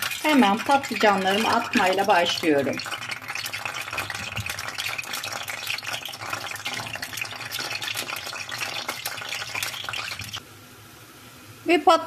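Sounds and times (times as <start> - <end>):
eggplant sizzling in hot oil: 0.0 - 10.4.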